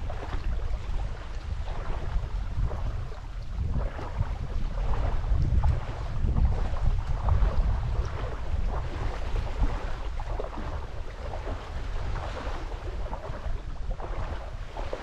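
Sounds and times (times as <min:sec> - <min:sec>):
sea water washing on shore: 0:00.0 - 0:15.0
wind buffeting microphone: 0:00.0 - 0:15.0.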